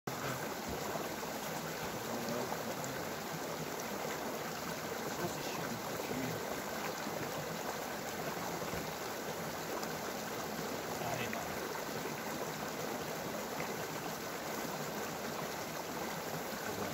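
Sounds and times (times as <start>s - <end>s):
mountain stream flowing: 0.1s - 16.9s.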